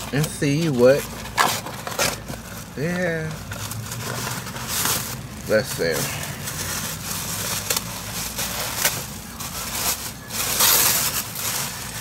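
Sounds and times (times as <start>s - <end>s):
plastic envelope crinkling: 0.0s - 12.0s.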